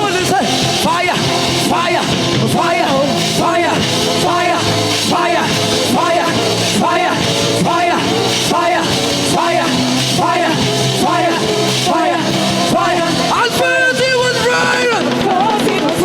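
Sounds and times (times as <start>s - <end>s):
live praise band music: 0.0s - 16.0s
rising and falling phrase: 0.2s - 15.0s
splashing cymbals: 0.4s - 13.5s.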